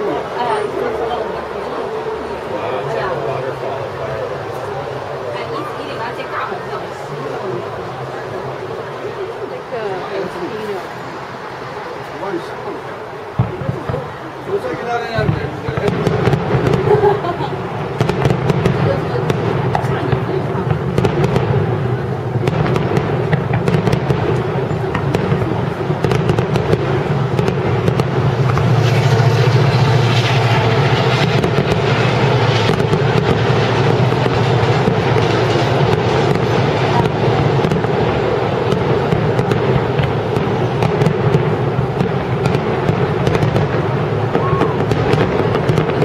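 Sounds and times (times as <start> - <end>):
fireworks crackling: 0.0 - 46.0.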